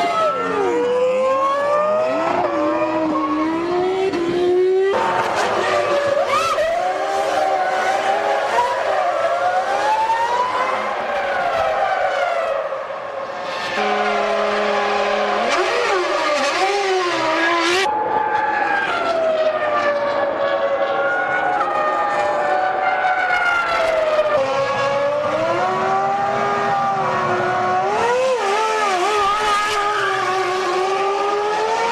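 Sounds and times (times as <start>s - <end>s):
racing car engines at high revs: 0.0s - 31.9s.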